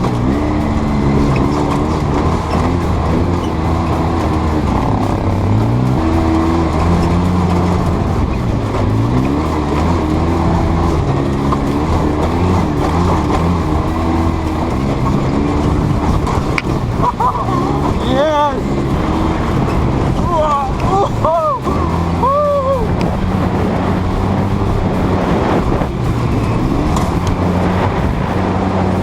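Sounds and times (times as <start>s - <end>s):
vehicle engine revving: 0.0s - 29.0s.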